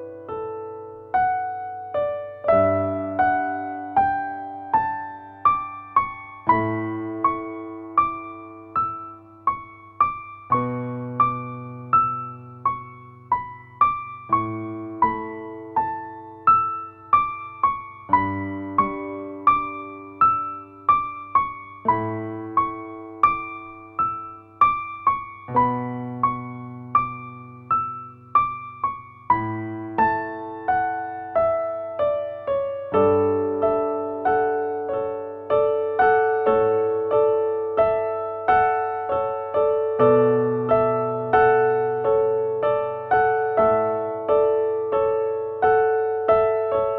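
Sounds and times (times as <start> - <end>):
gentle piano piece: 0.0 - 46.9.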